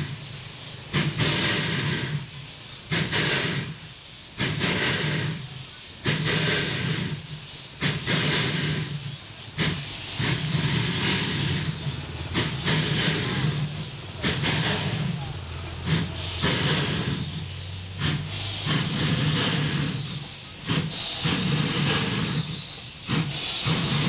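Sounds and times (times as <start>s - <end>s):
steam hissing: 0.0s - 24.0s
steam locomotive chuffing: 0.0s - 24.0s.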